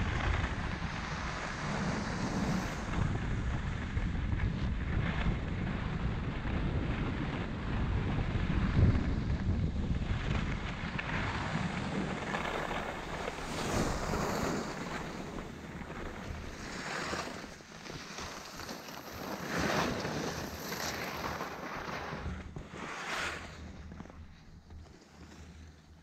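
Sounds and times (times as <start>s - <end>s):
skis scraping over snow: 0.0s - 26.0s
wind buffeting the microphone: 0.0s - 26.0s.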